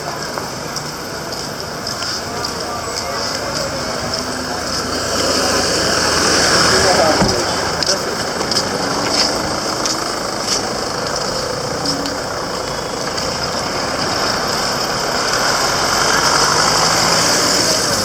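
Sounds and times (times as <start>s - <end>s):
vehicle engines running and idling: 0.0s - 18.0s.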